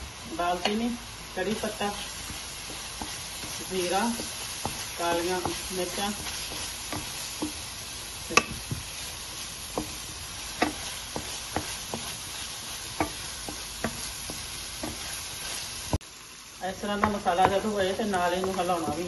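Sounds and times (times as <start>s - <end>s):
spices sizzling in hot oil: 0.0s - 19.0s
spatula knocking and scraping pan: 1.6s - 16.0s, 16.9s - 19.0s.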